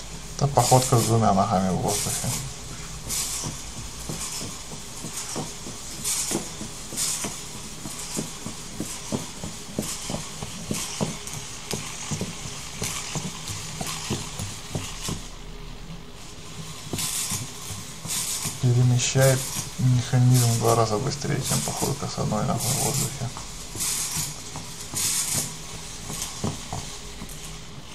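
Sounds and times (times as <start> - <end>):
high hissing servo whine: 0.0 - 27.8
robot feet and gears clicking: 0.0 - 27.9.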